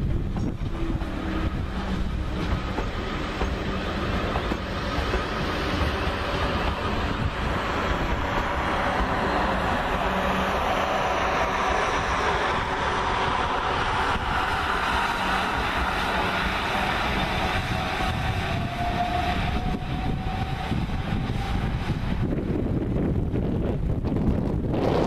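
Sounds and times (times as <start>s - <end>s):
train wheels rumbling on rails: 0.0s - 25.0s
train whine: 0.0s - 25.0s.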